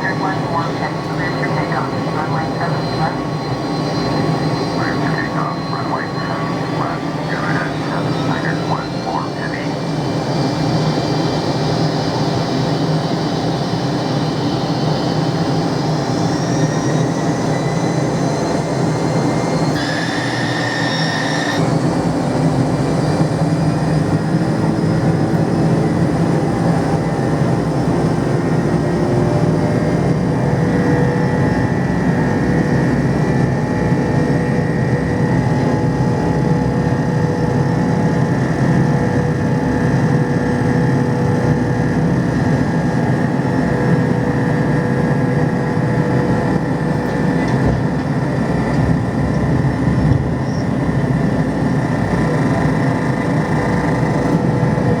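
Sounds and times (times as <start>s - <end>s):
high jet engine whine: 0.0s - 55.0s
jet engines roaring: 0.0s - 55.0s.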